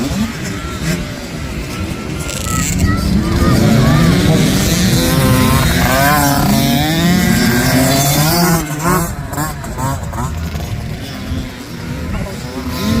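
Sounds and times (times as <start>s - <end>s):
two-stroke motorbike engine revving: 0.0s - 13.0s.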